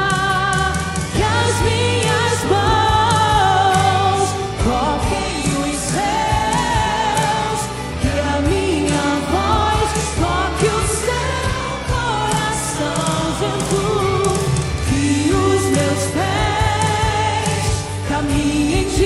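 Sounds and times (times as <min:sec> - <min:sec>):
steady bass: 0:00.0 - 0:19.0
woman singing gospel song: 0:00.0 - 0:19.0.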